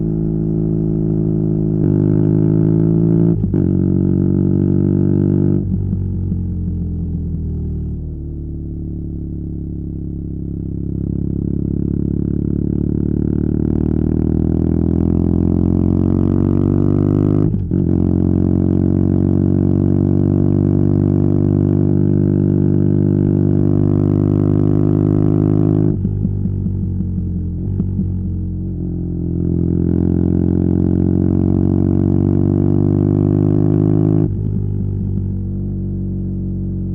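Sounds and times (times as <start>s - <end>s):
motorcycle accelerating hard: 0.0s - 36.9s.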